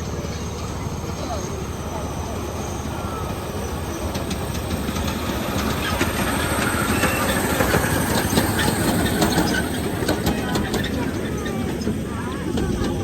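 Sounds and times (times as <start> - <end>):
train rumbling on rails: 0.0 - 13.0
wheels clicking over rail joints: 0.0 - 13.0.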